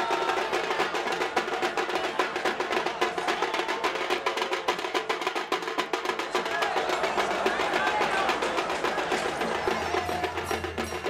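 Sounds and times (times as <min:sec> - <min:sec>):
deeper drums: 0:00.0 - 0:11.0
fast sharp drum strokes: 0:00.0 - 0:11.0.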